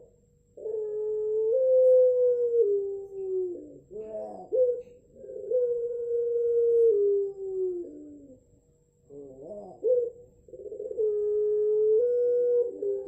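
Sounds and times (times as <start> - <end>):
dove cooing: 0.0 - 8.5, 9.1 - 13.0.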